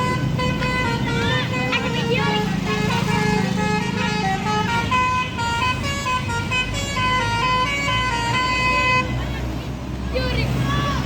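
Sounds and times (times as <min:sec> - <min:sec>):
melodic bus horn playing a tune: 0:00.0 - 0:09.3
bus engine running: 0:00.0 - 0:11.0.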